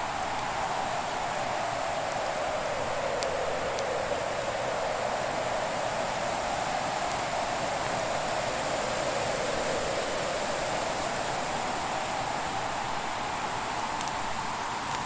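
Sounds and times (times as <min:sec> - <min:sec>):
faint fire crackles: 0:00.0 - 0:15.0.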